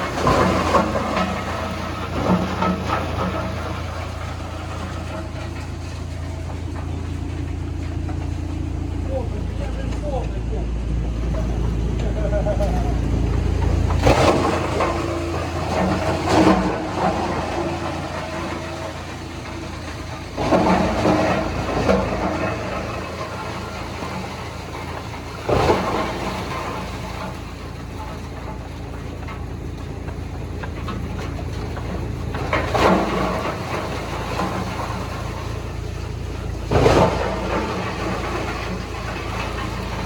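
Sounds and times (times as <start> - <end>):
heavy engine running: 0.0 - 40.0.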